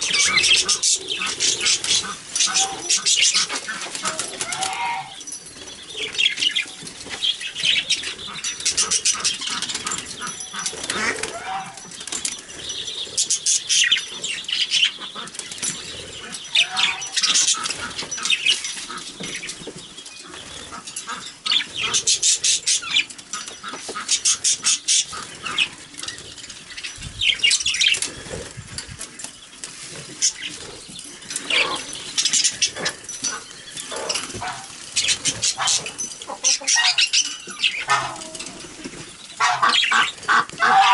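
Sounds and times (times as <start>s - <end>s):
bird chatter: 0.0s - 40.9s.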